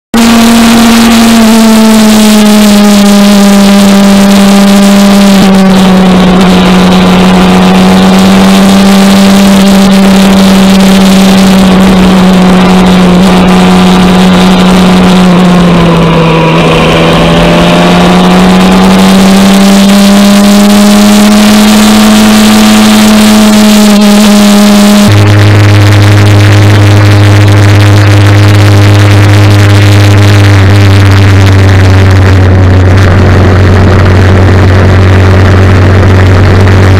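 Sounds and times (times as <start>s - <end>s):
motorcycle engine cruising: 0.1s - 36.9s
road and wind noise: 0.1s - 36.9s.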